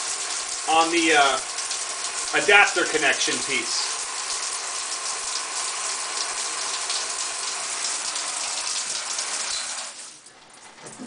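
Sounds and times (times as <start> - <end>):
shower spray splashing on tiles: 0.0 - 10.2.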